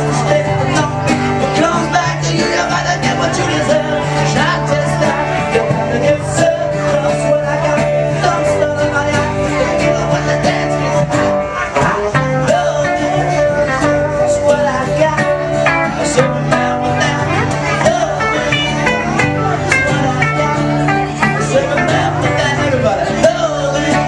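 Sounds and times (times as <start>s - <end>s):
country bluegrass band playing: 0.0s - 24.0s
guitar: 0.0s - 24.0s
person singing: 0.0s - 24.0s.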